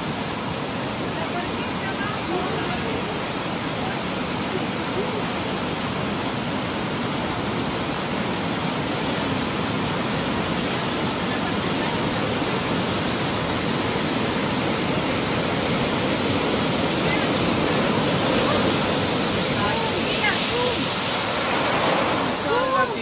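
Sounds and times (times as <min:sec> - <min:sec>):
seawater rushing ashore: 0:00.0 - 0:23.0.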